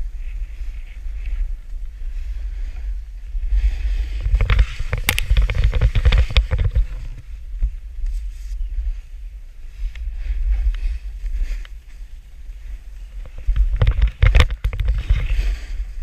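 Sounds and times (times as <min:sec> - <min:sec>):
snowboard scraping over snow: 0:00.0 - 0:16.0
wind rumble on microphone: 0:00.0 - 0:16.0.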